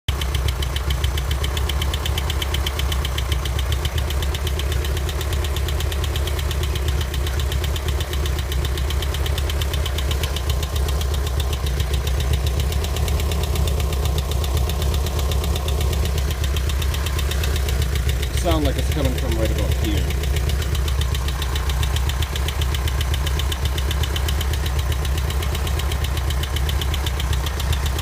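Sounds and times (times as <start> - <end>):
engine idling with rapid knock: 0.1 - 28.0.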